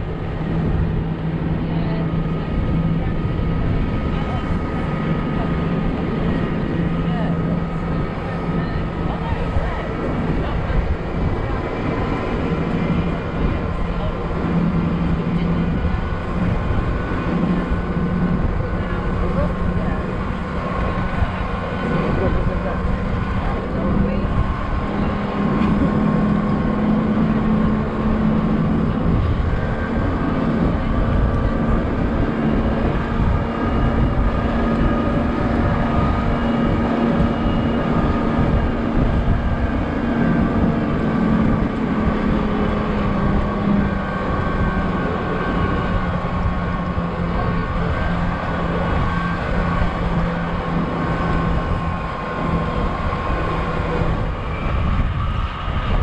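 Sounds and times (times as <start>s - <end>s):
bus engine hum: 0.0s - 56.0s
wind and road noise: 0.0s - 56.0s.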